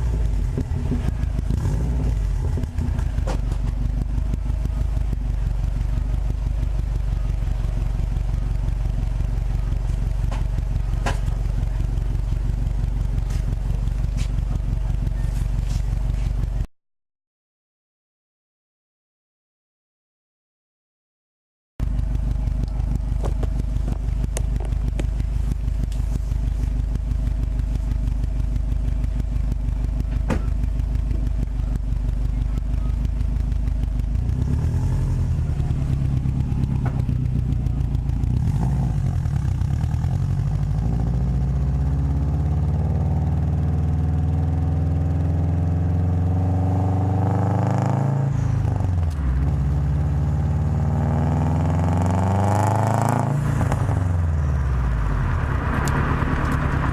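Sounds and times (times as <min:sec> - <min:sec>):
car engine idling and revving: 0:00.0 - 0:16.7, 0:21.8 - 0:56.9.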